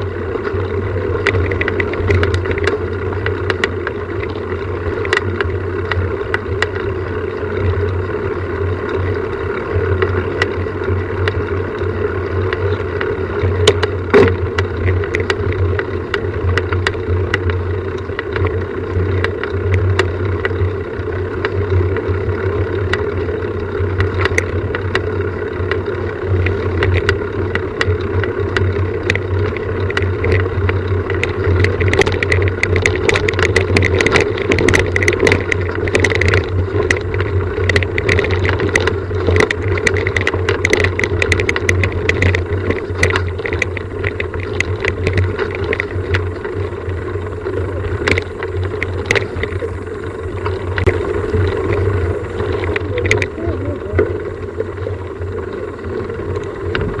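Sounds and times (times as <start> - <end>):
clicks and rattles: 0.0 - 57.0
engine-like hum: 0.0 - 57.0.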